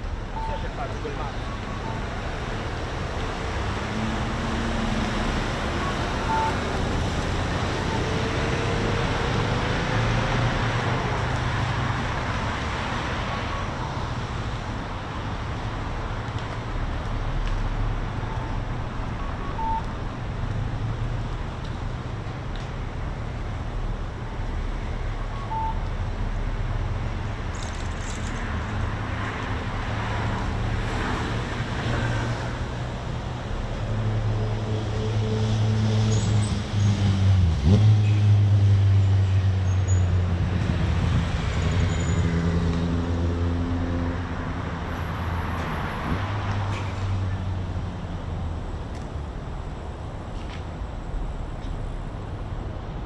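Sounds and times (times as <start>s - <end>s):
road traffic noise: 0.0s - 53.0s.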